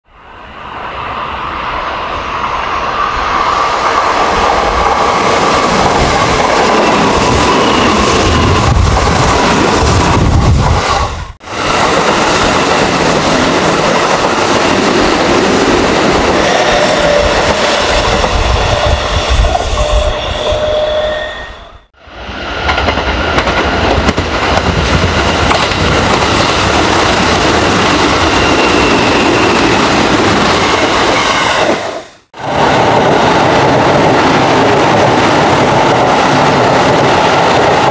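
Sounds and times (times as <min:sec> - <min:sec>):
steady train whine: 0:00.0 - 0:37.9.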